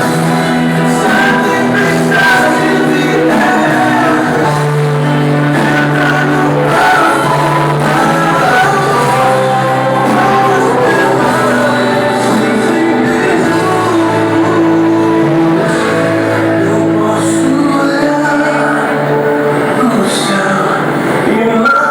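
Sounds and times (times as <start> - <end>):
person singing: 0.0 - 21.9.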